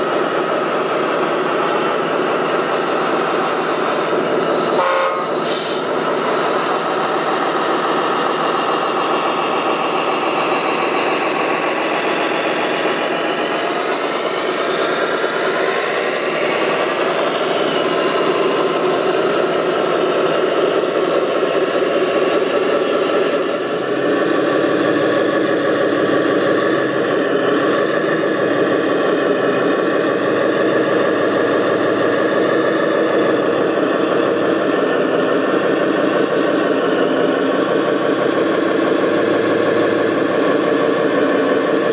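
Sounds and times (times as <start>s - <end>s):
small machine engine running: 0.0s - 4.7s, 5.6s - 41.9s.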